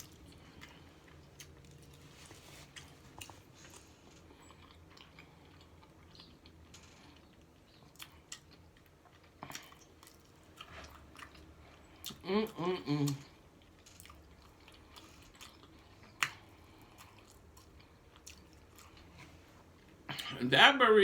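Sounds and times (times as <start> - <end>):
chewing food: 0.0 - 20.3.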